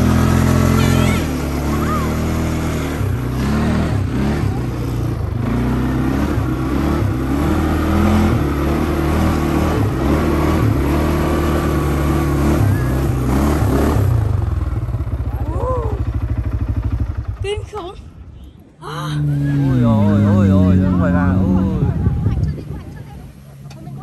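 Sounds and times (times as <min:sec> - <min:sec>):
quad bike engine revving: 0:00.0 - 0:24.0.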